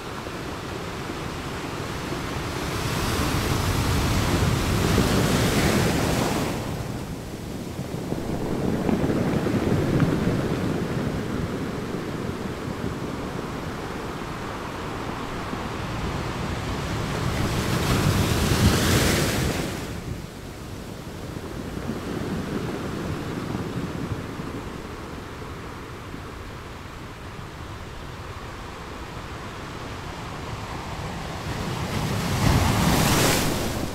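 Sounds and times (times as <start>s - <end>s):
wind buffeting microphone: 0.4s - 33.9s.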